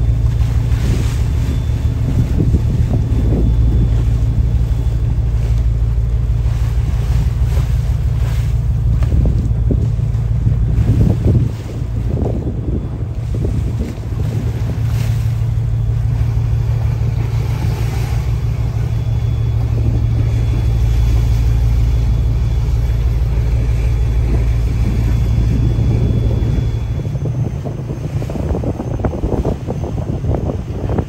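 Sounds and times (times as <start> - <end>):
boat engine droning: 0.0 - 31.0
choppy waves splashing: 0.0 - 31.0
wind buffeting microphone: 0.0 - 31.0.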